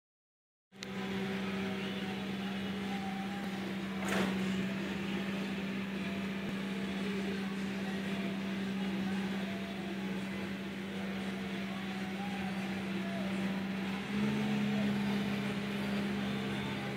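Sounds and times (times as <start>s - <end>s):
harvesting machine engine hum: 0.8s - 16.9s.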